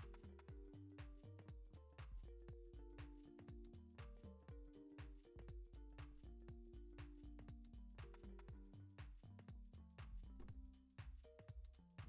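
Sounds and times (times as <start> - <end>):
faint music with steady beat: 0.0 - 12.0.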